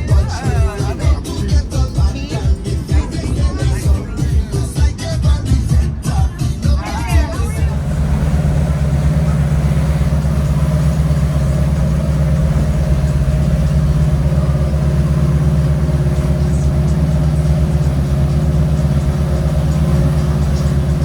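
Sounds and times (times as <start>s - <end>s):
boat engine droning: 0.0s - 5.7s, 6.8s - 21.0s.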